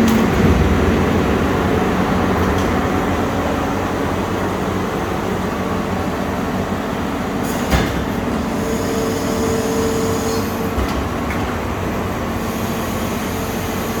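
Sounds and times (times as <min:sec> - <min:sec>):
machine mechanical hum: 0:00.0 - 0:14.0
steady machine whine: 0:00.0 - 0:14.0.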